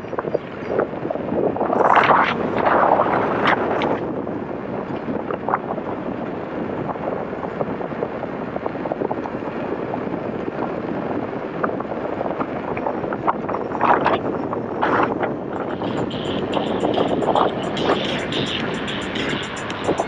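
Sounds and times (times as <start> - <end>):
road and engine noise: 0.0 - 20.0
wind rushing over helmet: 0.0 - 20.0.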